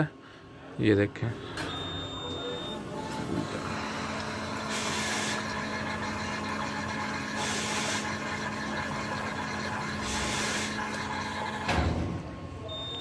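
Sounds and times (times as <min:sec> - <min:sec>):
vending machine motor hum: 0:00.0 - 0:13.0.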